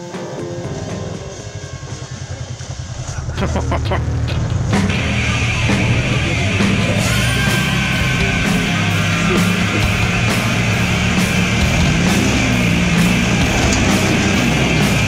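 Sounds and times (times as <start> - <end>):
loud rock music: 0.0 - 15.0
steady drum beat: 0.0 - 15.0.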